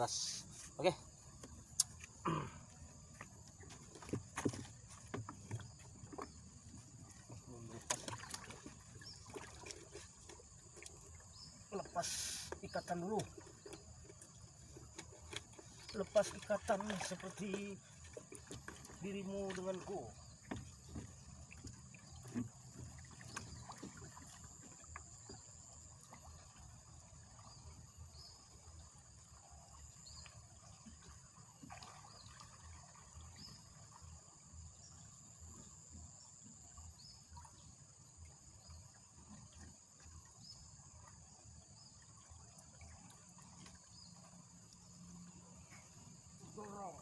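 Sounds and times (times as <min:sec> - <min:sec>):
crickets buzzing and chirping: 0:00.0 - 0:47.0.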